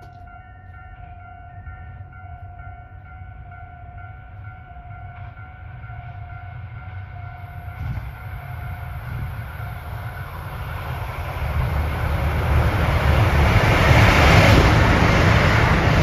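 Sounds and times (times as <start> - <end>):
train engine and rail rumble: 0.0 - 16.0.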